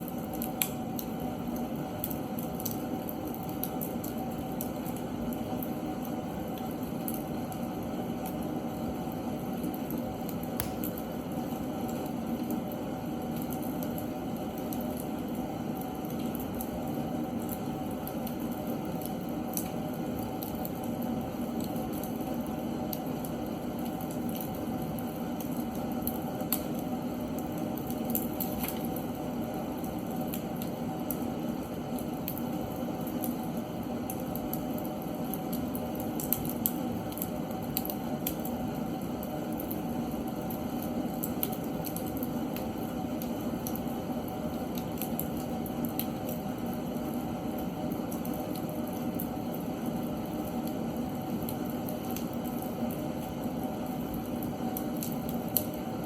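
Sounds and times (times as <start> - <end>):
fire crackles and pops: 0.0 - 56.0.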